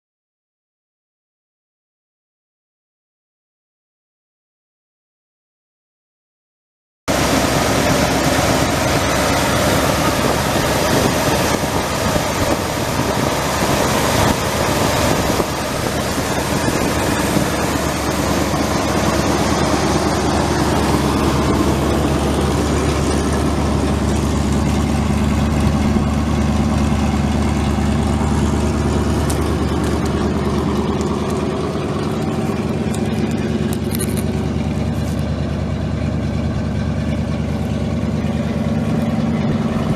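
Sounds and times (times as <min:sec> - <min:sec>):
truck engine running: 0:07.1 - 0:39.9.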